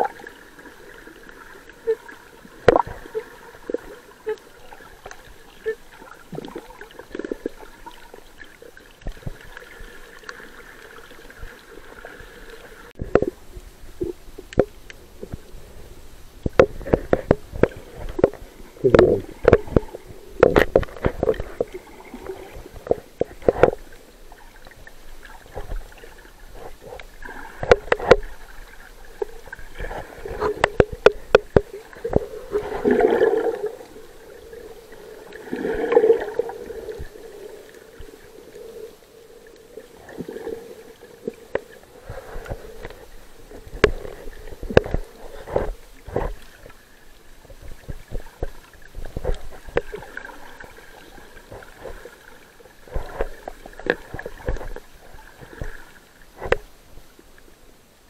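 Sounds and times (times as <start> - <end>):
underwater gurgling and bubbling: 0.0 - 56.7.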